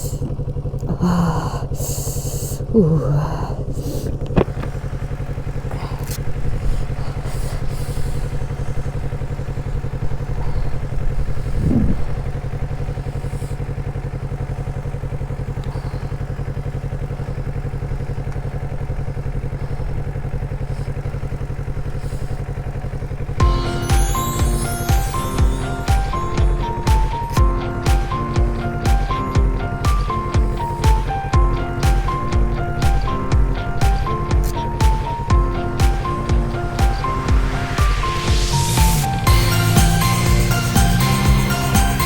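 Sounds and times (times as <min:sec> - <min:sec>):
motorcycle engine running steadily: 0:00.0 - 0:42.0.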